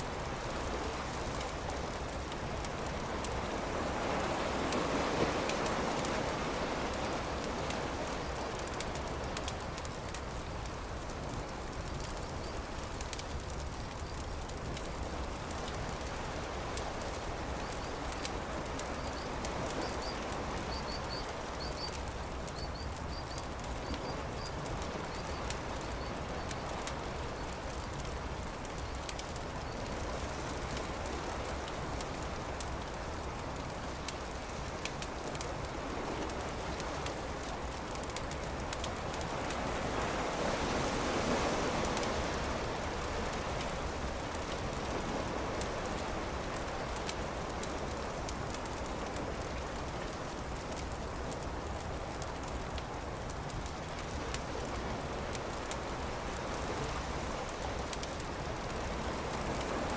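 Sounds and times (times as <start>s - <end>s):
campfire crackling and popping: 0.0s - 59.9s
surf washing: 0.0s - 59.9s.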